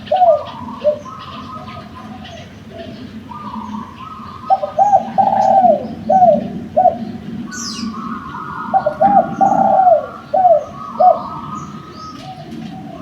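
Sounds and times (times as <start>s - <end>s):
dove cooing: 0.0s - 13.0s
small birds chirping: 0.0s - 13.0s.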